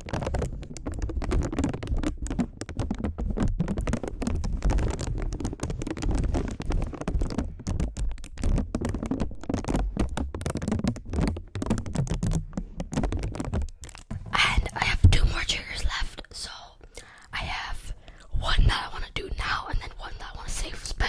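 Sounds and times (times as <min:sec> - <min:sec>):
close-up tapping and scratching: 0:00.0 - 0:21.0.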